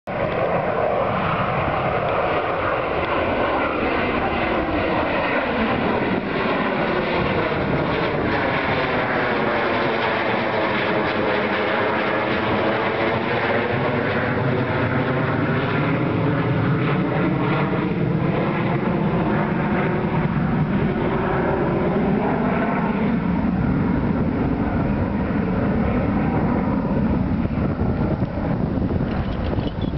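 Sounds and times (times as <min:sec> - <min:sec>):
jet airliner passing overhead: 0:00.1 - 0:29.9.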